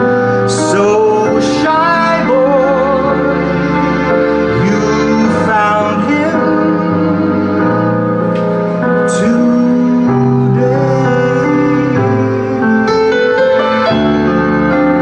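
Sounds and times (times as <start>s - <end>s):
piano keyboard chords and melody: 0.0s - 15.0s.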